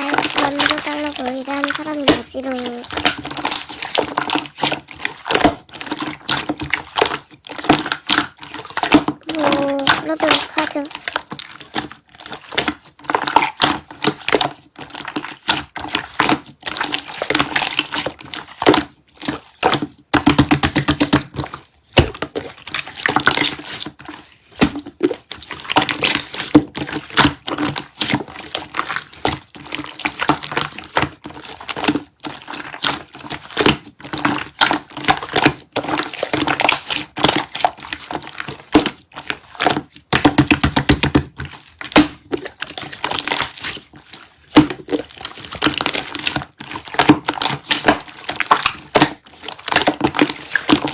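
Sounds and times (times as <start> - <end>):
slime squeezed by hand: 0.0 - 20.0, 21.1 - 50.9.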